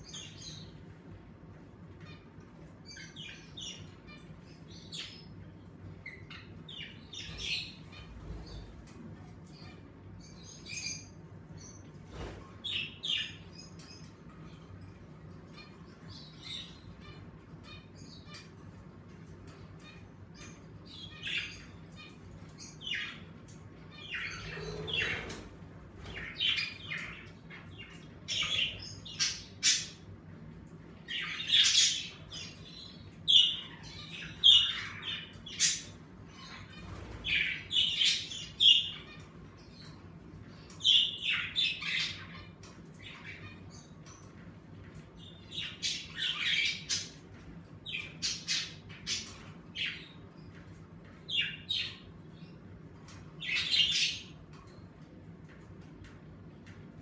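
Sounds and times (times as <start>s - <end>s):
budgerigars chirping and squawking: 0.0s - 55.6s.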